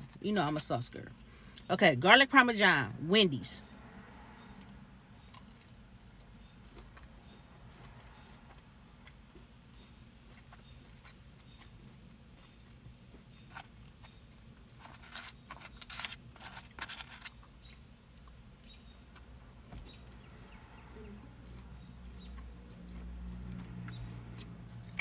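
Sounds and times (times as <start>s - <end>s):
quiet chewing: 4.4s - 25.0s.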